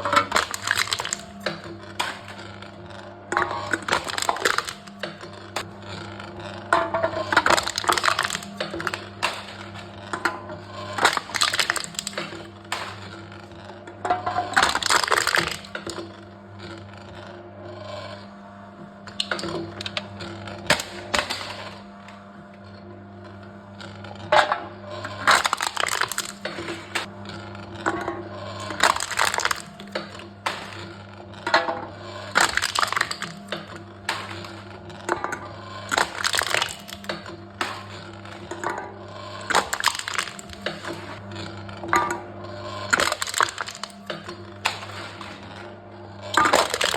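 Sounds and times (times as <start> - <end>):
cans crushed by machine: 0.0 - 16.8, 19.0 - 22.2, 23.2 - 46.9.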